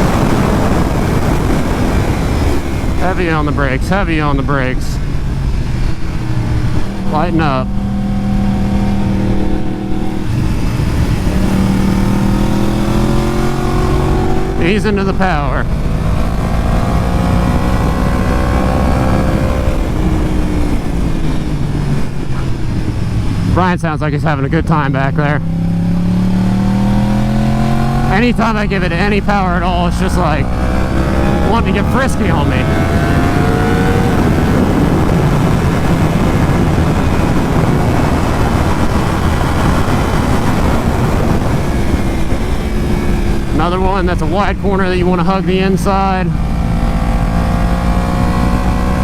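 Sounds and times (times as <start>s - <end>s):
motorcycle engine accelerating: 0.0s - 49.0s
wind and road noise: 0.0s - 49.0s.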